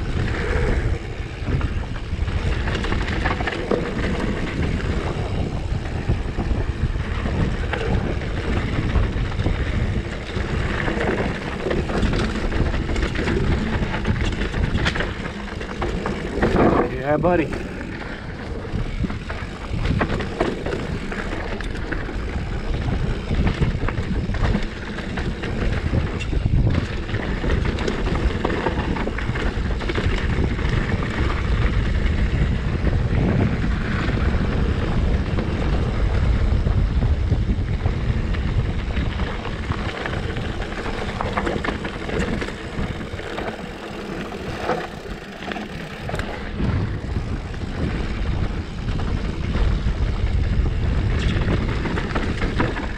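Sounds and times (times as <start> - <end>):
bike clicks and rattles: 0.0 - 52.9
bike tyres rolling on dirt: 0.0 - 52.9
wind buffeting microphone: 0.0 - 52.9.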